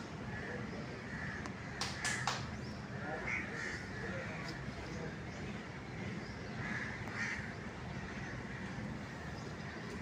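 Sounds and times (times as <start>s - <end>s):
steady background noise: 0.0s - 10.0s
crows cawing: 0.2s - 4.7s, 5.8s - 9.8s.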